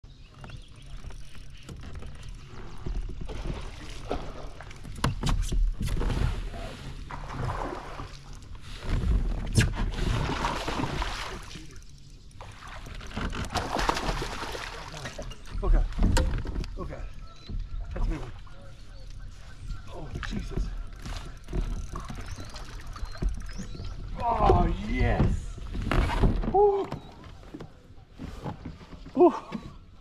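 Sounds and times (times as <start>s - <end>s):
water splashing and sloshing: 0.3s - 30.0s.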